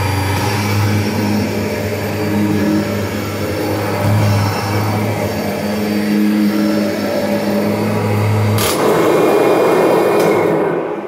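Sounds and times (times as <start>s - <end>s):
vacuum cleaner humming: 0.0s - 10.5s.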